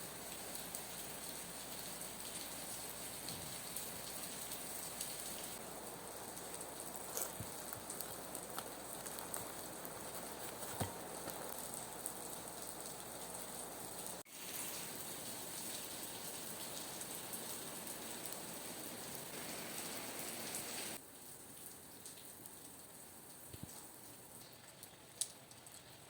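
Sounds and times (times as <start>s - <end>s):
steady rain hissing: 0.0s - 26.0s.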